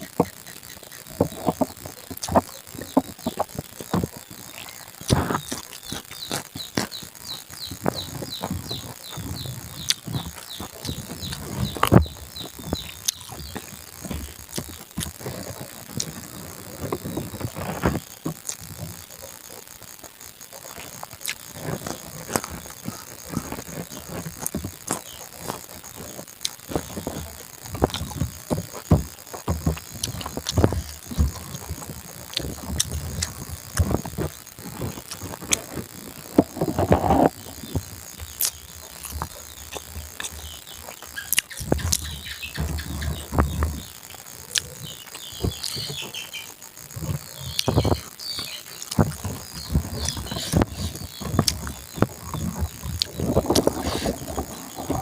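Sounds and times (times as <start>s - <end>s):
person chewing and smacking lips: 0.0s - 18.8s, 20.0s - 46.0s, 47.0s - 55.0s.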